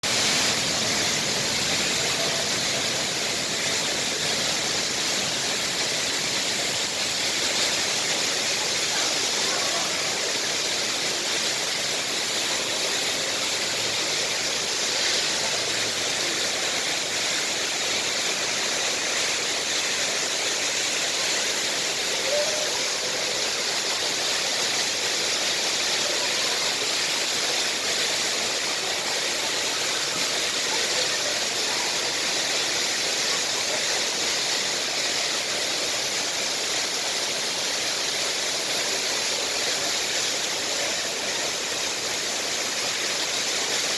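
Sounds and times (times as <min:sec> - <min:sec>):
indoor waterfall pouring: 0:00.0 - 0:43.9.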